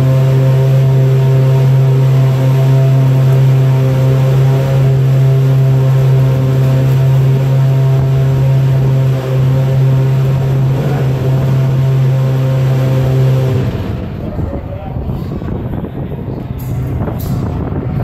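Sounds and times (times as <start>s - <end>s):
loud mechanical drone: 0.0s - 18.0s.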